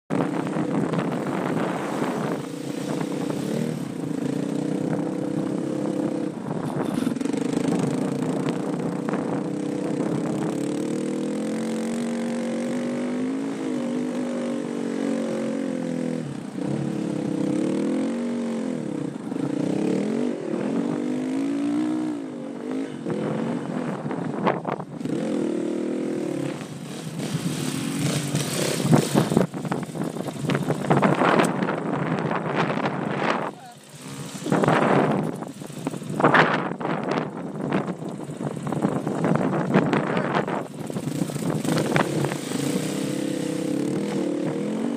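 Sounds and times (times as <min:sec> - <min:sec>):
dirt bike engines revving: 0:00.1 - 0:44.9.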